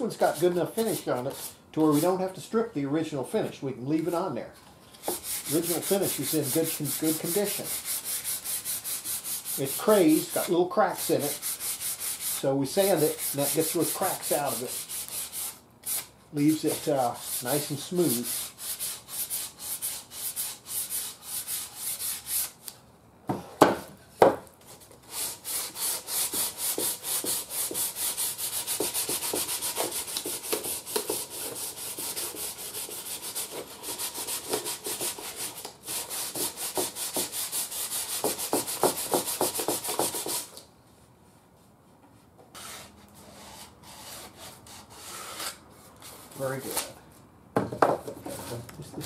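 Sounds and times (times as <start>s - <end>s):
sandpaper scuffing wood finish: 0.1s - 2.2s, 5.0s - 22.6s, 24.7s - 40.6s, 42.6s - 47.0s.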